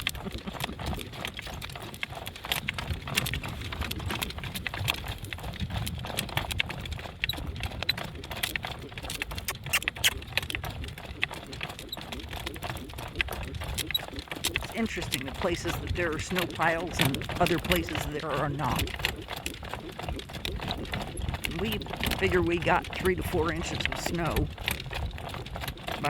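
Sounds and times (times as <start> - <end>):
horse hooves clopping: 0.0 - 26.0.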